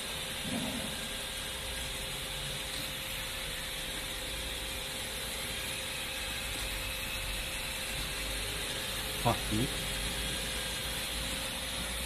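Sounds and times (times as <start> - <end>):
workshop machinery hum and hiss: 0.0 - 12.0.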